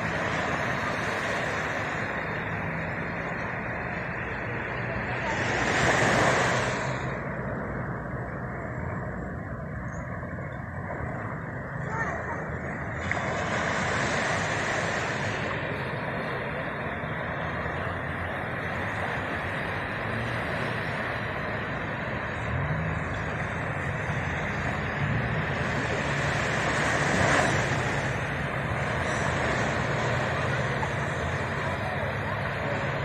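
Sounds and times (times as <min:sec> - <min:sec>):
surf on a beach: 0:00.0 - 0:33.0
wind: 0:00.0 - 0:33.0.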